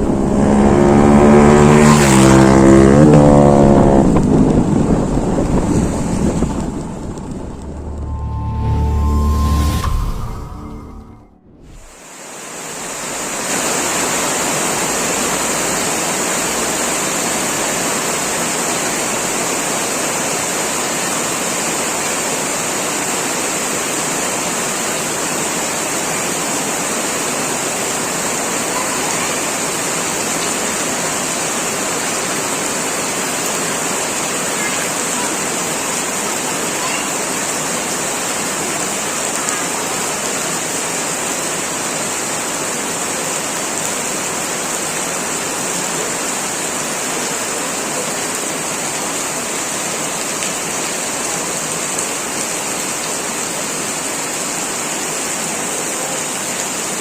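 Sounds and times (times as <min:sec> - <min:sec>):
heavy rain pouring: 0:00.0 - 0:10.8, 0:11.6 - 0:57.0.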